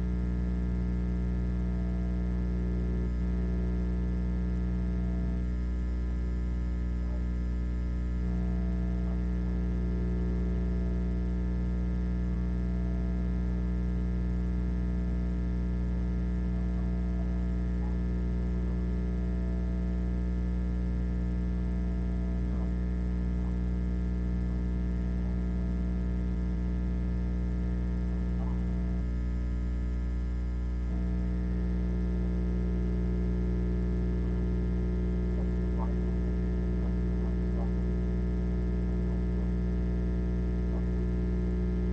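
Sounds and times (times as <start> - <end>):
electrical mains hum: 0.0 - 41.9.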